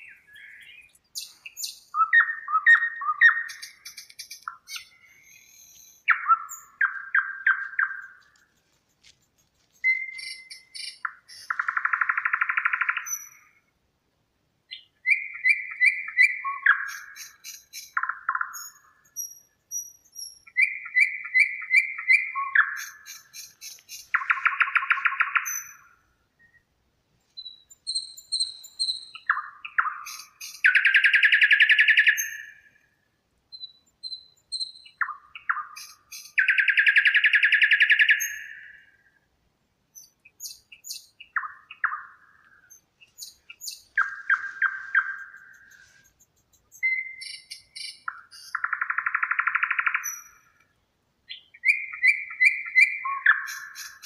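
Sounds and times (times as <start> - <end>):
songbirds singing trills: 0.0 - 13.8, 14.6 - 39.3, 39.9 - 54.0.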